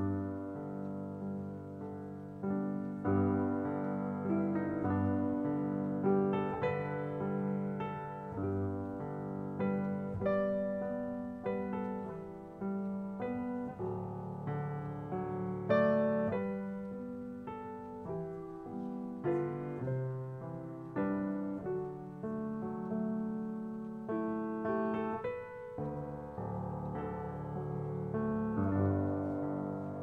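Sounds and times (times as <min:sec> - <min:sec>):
slow gentle piano chords: 0:00.0 - 0:30.0.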